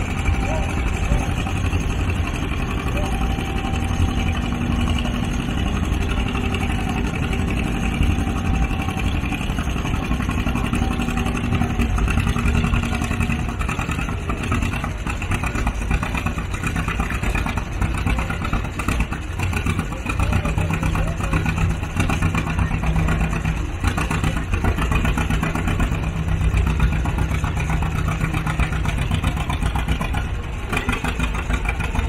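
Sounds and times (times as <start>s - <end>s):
engine running loudly: 0.0s - 32.0s.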